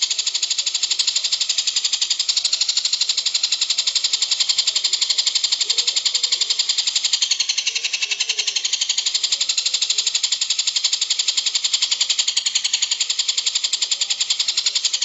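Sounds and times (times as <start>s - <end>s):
songbird trill: 0.0s - 15.0s.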